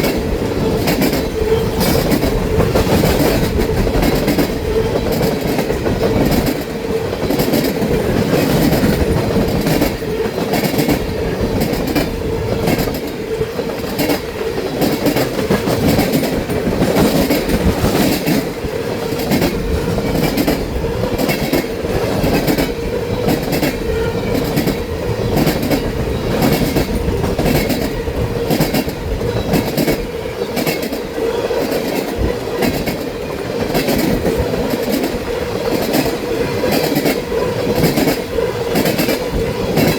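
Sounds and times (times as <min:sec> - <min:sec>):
train hum: 0:00.0 - 0:39.9
train wheels clicking on rails: 0:00.0 - 0:39.9.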